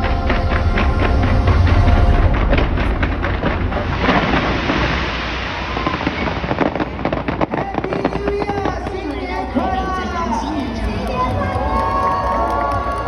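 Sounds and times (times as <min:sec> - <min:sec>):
fireworks booming and banging: 0:00.0 - 0:13.0
fireworks crackling: 0:00.0 - 0:13.0.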